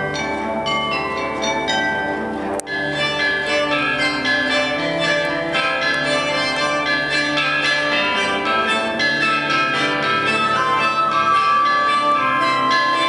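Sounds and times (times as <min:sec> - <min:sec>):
bronze chime bells ringing: 0:00.0 - 0:13.0
zithers playing: 0:00.0 - 0:13.0.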